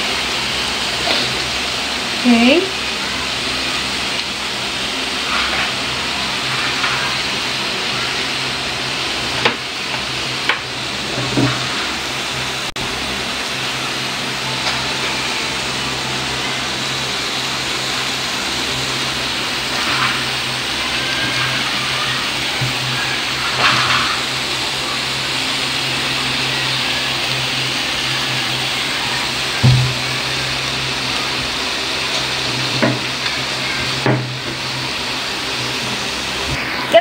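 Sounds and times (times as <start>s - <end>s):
meat sizzling on a grill plate: 0.0s - 37.0s.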